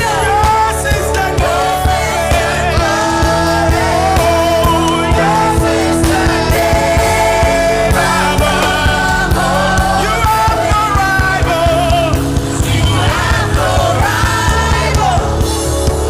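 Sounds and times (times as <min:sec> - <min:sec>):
band with steady drum beat: 0:00.0 - 0:16.0
voices singing: 0:00.0 - 0:16.0.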